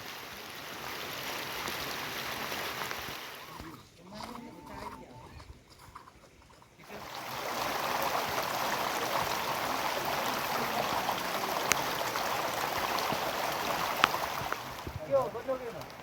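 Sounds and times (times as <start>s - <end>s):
water rushing: 0.0s - 3.8s, 6.8s - 16.0s.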